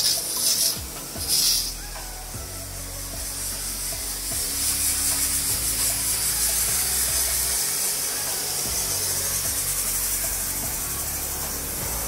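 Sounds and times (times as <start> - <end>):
water jet spraying: 0.0 - 12.0.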